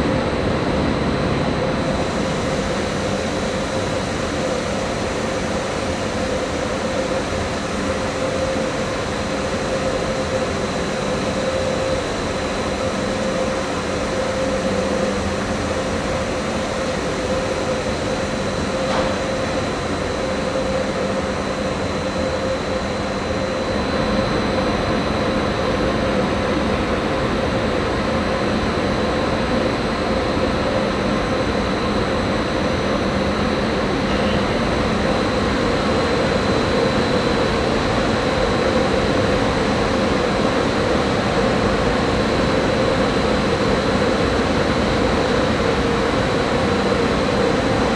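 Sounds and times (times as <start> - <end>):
locomotive fans humming with whine: 0.0 - 47.9.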